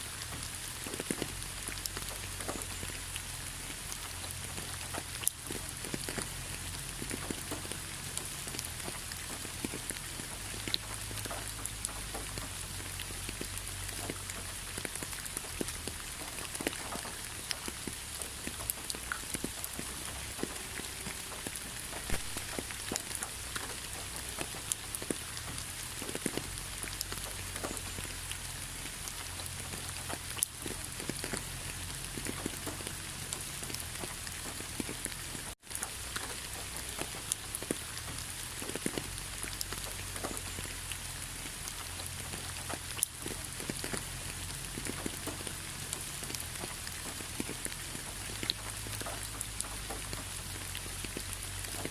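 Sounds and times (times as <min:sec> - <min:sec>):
steady rain pattering: 0:00.0 - 0:51.9.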